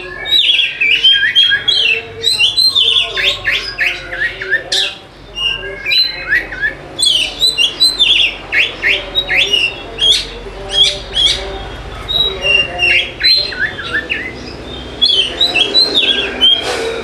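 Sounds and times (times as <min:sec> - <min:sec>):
magpie-robin singing: 0:00.0 - 0:17.0.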